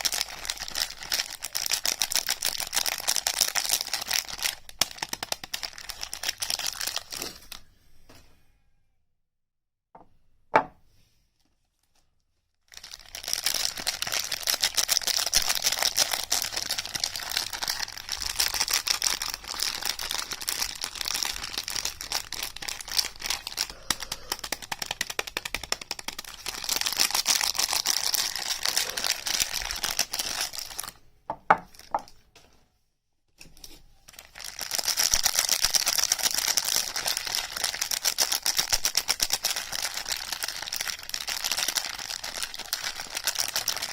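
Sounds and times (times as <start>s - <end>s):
packaging crinkling: 0.0s - 7.6s, 11.7s - 31.0s, 31.6s - 32.2s, 33.6s - 43.9s.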